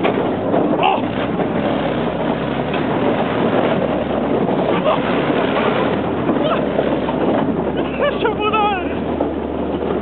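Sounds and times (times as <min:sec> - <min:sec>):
tank running: 0:00.0 - 0:10.0
wind buffeting microphone: 0:00.0 - 0:10.0.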